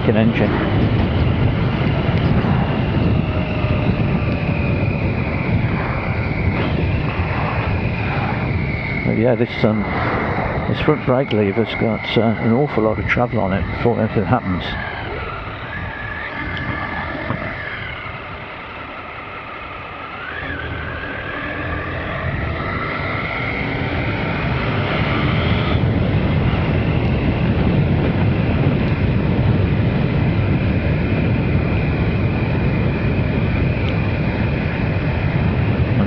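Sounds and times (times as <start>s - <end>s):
motorcycle engine accelerating: 0.0s - 36.0s
wind and road noise: 0.0s - 36.0s.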